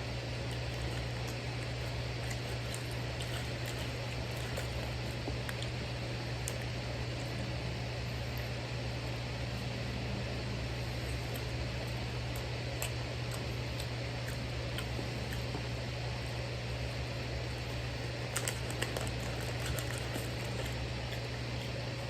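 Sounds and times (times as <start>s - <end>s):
low mechanical hum with hiss: 0.0s - 22.0s.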